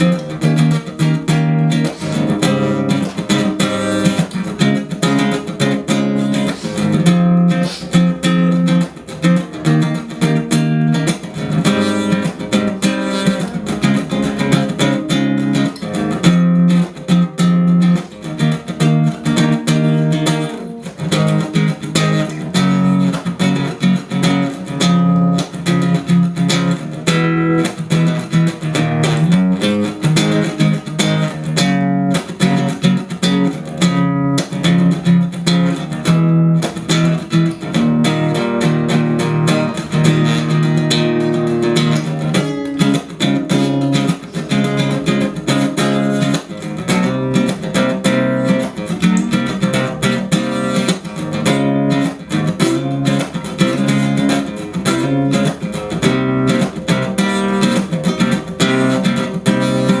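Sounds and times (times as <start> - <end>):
plucked guitar music: 0.0 - 60.0.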